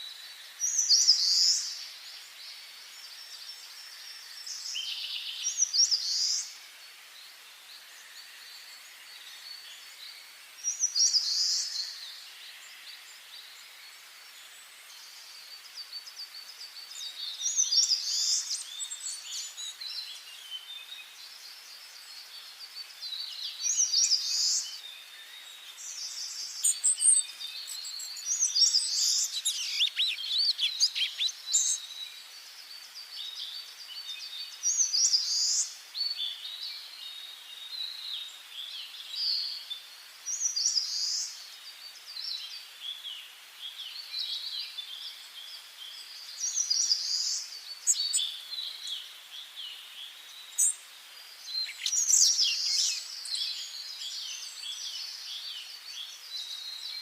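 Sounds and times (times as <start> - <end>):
faint steady hiss: 0.0 - 57.0
songbirds chirping: 0.0 - 57.0.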